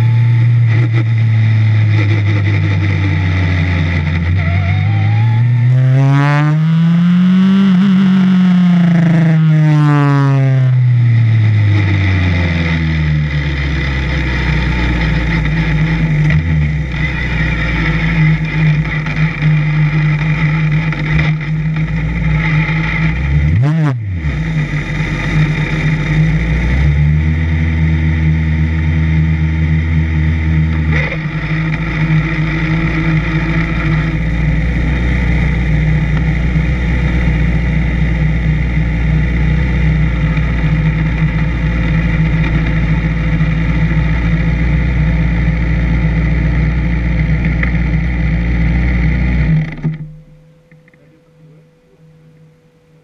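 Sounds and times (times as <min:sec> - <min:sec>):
race car engine running: 0:00.0 - 0:53.0.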